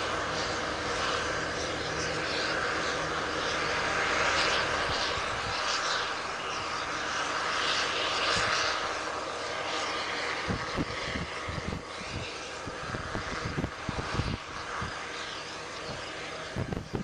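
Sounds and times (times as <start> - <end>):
harvester and tractor drone: 0.0 - 17.0.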